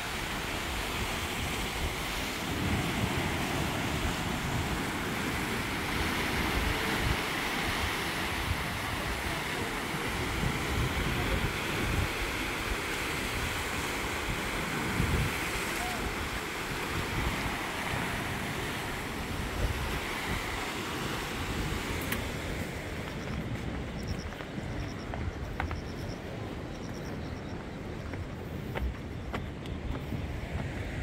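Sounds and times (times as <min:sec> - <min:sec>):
waves breaking on rocks: 0:00.0 - 0:26.7
wind gusting on microphone: 0:00.0 - 0:31.0.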